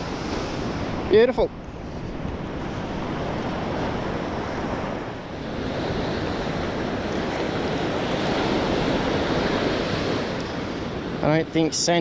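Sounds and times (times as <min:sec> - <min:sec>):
waves breaking on a beach: 0:00.0 - 0:12.0
wind on microphone: 0:00.0 - 0:12.0.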